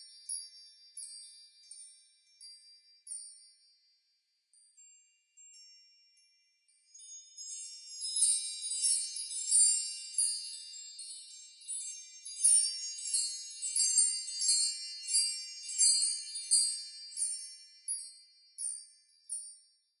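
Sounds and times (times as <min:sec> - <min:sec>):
high tinkling chimes: 0:00.0 - 0:20.0.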